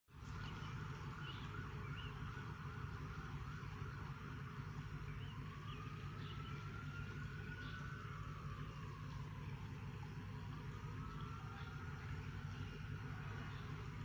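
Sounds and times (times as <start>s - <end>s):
distant siren wailing: 0.1s - 14.0s
low background rumble: 0.1s - 14.0s.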